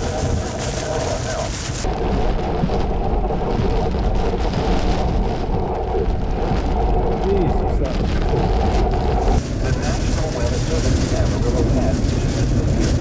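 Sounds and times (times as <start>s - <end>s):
deep steady rumble: 0.0s - 13.0s
heavy rain: 0.0s - 13.0s
wind: 0.0s - 13.0s.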